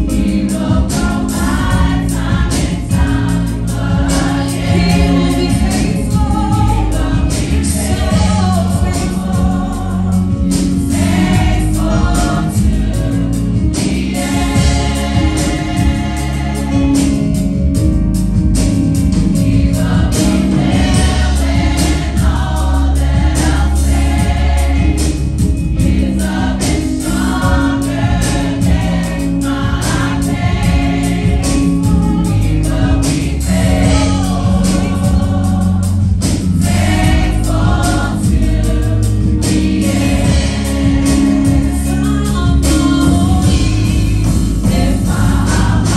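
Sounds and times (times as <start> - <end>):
bass line: 0.0 - 45.9
choir singing gospel: 0.0 - 45.9
drums: 0.0 - 45.9.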